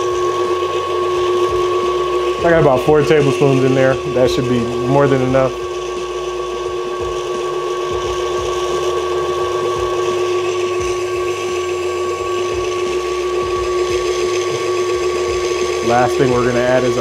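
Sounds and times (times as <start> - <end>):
stand mixer motor humming: 0.0 - 17.0
wire whisk beating dressing: 0.0 - 17.0.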